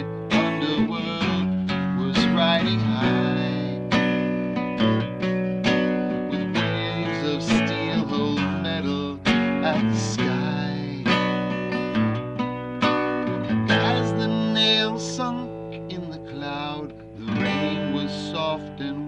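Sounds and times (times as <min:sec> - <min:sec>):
person singing: 0:00.0 - 0:04.2, 0:06.0 - 0:12.1, 0:13.3 - 0:19.0
acoustic guitar strumming: 0:00.0 - 0:19.0.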